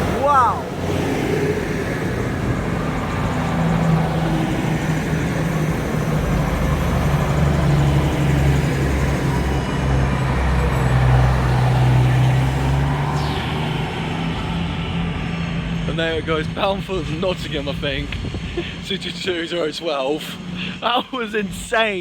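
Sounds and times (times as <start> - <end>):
diesel train engines droning: 0.0 - 22.0.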